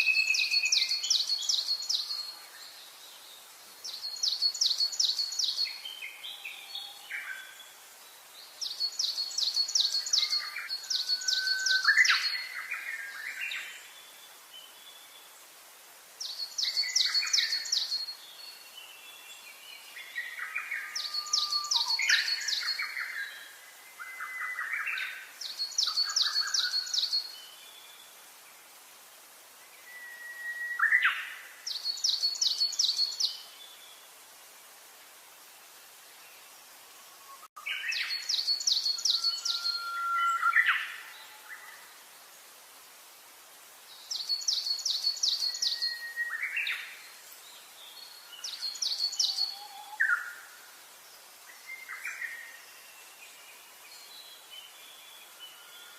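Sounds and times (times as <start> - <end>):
songbirds singing: 0.0 - 34.4, 35.7 - 55.9.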